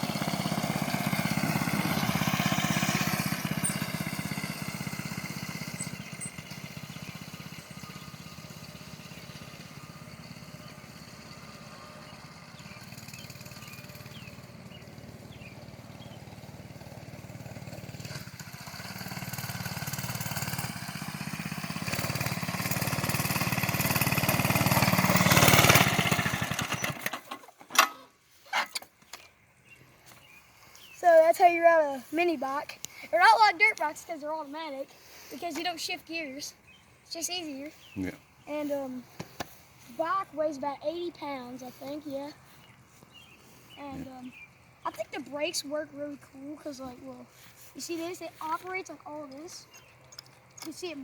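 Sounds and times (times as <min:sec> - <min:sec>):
mini bike engine running: 0:00.0 - 0:28.0, 0:30.2 - 0:51.0.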